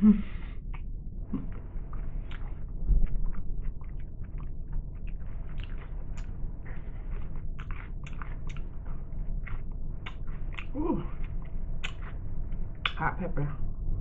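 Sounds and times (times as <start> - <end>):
person chewing food: 0.3 - 13.0
wet mouth clicks and smacks: 0.7 - 13.0.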